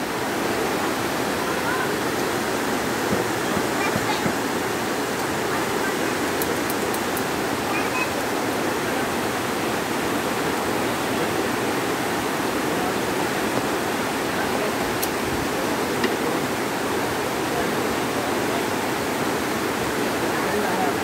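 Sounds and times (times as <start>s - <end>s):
waterfall and rapids rushing: 0.0s - 21.0s.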